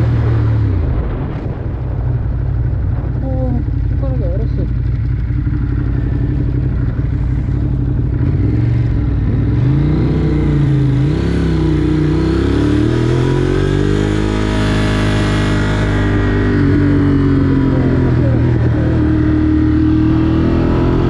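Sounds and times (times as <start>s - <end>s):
low road rumble: 0.0s - 21.0s
vehicle engine speeding up: 0.0s - 21.0s.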